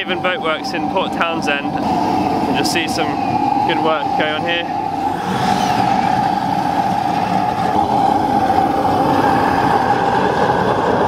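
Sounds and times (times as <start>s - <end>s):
steam rushing: 0.0s - 11.0s.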